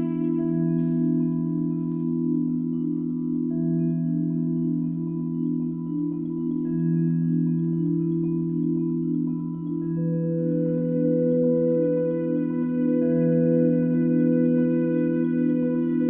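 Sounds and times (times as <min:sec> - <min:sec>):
vibraphone arpeggios: 0:00.0 - 0:16.0.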